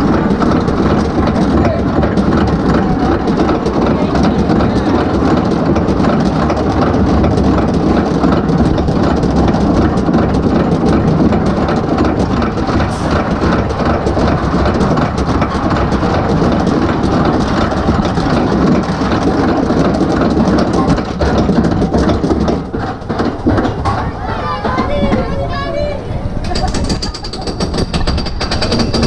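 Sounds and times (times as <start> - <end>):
roller coaster rumbling on track: 0.0 - 29.0
wheels rattling: 0.0 - 29.0.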